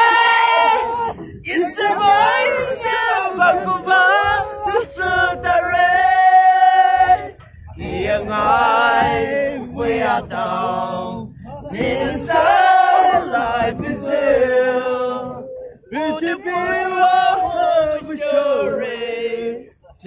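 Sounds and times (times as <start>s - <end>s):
men chanting in long held notes: 0.0s - 19.7s.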